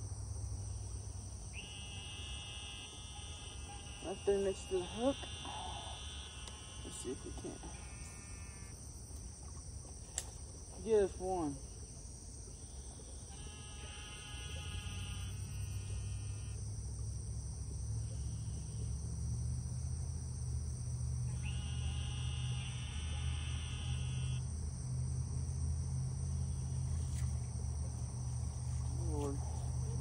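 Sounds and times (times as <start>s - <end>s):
insect chorus drone: 0.0s - 30.0s
steady pitched hum: 0.0s - 30.0s.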